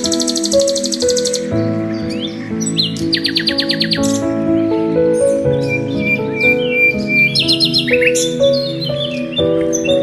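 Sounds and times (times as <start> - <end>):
small birds chirping: 0.0 - 10.0
soft background music: 0.0 - 10.0.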